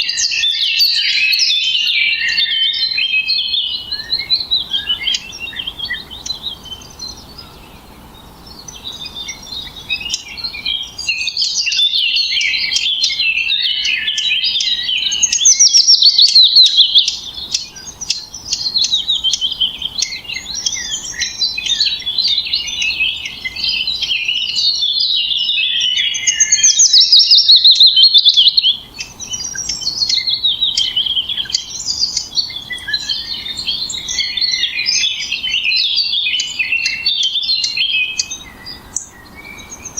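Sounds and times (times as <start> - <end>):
loud trilled bird phrases: 0.0 - 39.9
songbirds chirping: 0.0 - 39.9.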